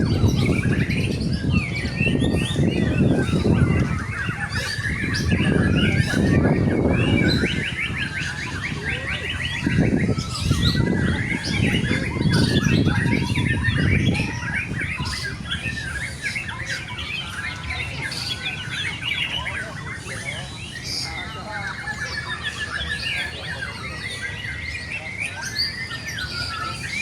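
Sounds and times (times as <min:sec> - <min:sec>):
songbirds singing with trills: 0:00.0 - 0:27.0.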